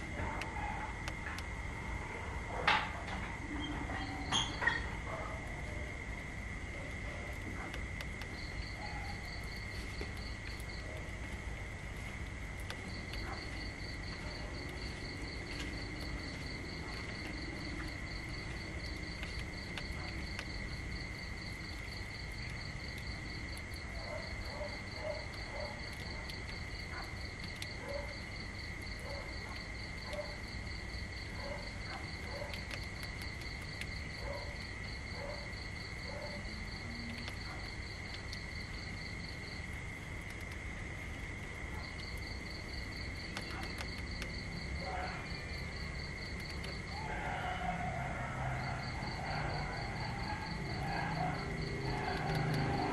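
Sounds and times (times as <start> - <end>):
insects trilling: 0.0 - 52.9
low outdoor rumble: 0.0 - 52.9.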